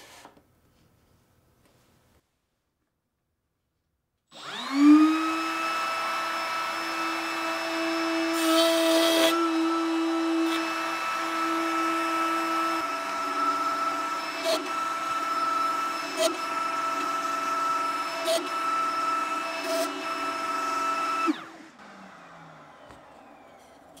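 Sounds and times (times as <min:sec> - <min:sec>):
router bit cutting wood: 0:04.3 - 0:24.0
router high whine: 0:04.3 - 0:24.0.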